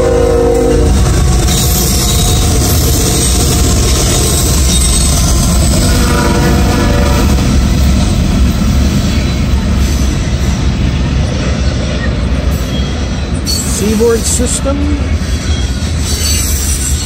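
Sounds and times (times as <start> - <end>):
freight train passing: 0.0 - 17.0
steel wheels on rails: 0.0 - 17.0.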